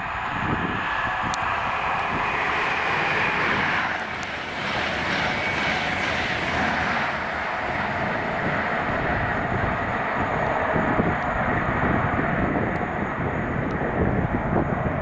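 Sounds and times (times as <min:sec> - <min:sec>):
diesel train rumbling past: 0:00.0 - 0:15.0.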